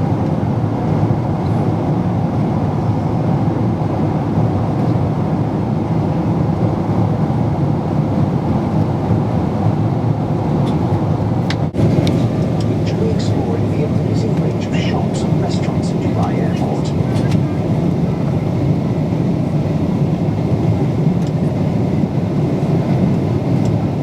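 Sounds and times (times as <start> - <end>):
jet engines and airflow roar: 0.0 - 24.0.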